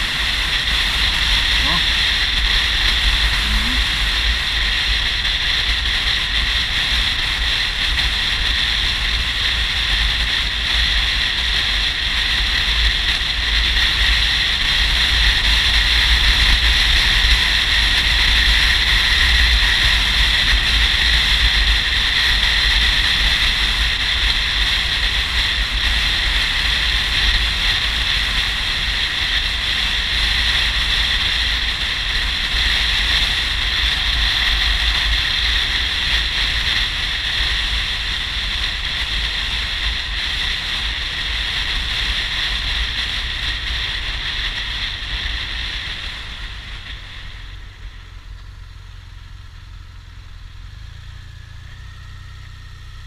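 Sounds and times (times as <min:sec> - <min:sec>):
wind rush on microphone: 0:00.0 - 0:48.3
motorcycle engine rumble: 0:00.0 - 0:53.0.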